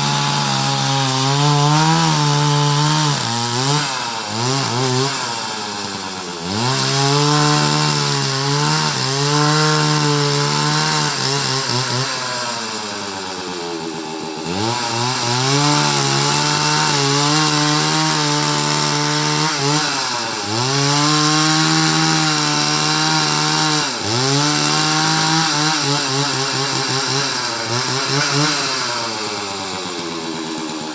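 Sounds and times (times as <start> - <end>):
chainsaw cutting: 0.0 - 30.9.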